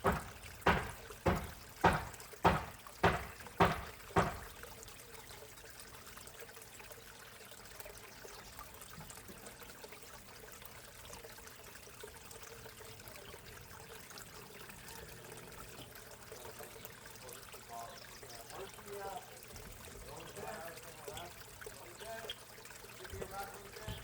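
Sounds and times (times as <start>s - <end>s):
water trickling into a pond: 0.0s - 24.0s.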